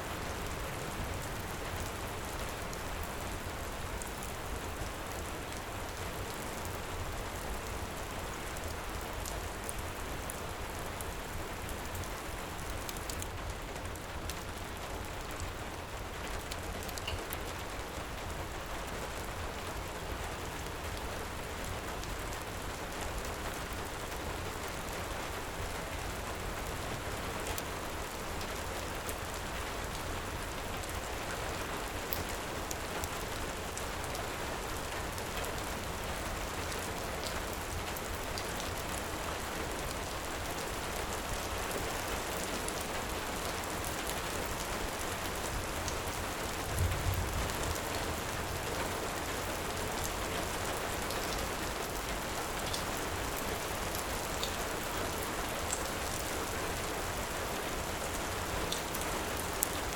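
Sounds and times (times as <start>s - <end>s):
faint wood fire crackles: 0.1s - 59.9s
heavy rain falling: 0.1s - 59.9s.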